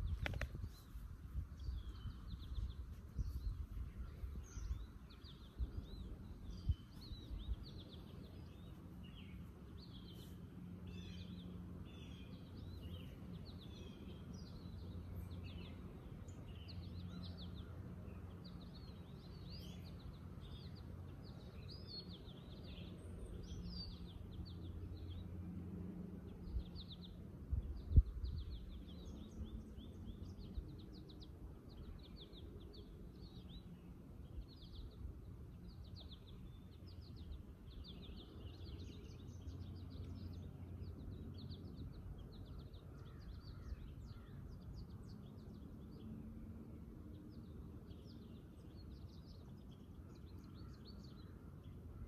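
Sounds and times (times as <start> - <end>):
low outdoor rumble: 0.0 - 52.0
songbirds chirping: 0.0 - 52.0.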